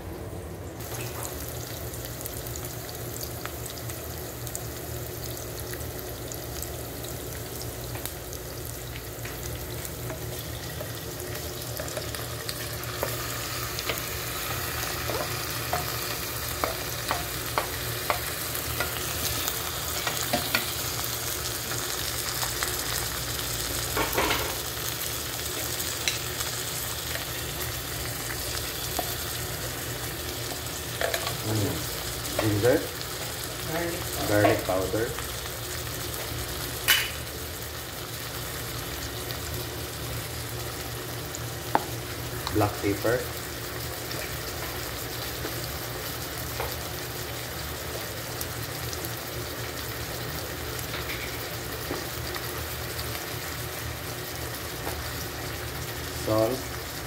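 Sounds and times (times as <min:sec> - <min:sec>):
squid sizzling in a pan: 0:00.8 - 0:57.0.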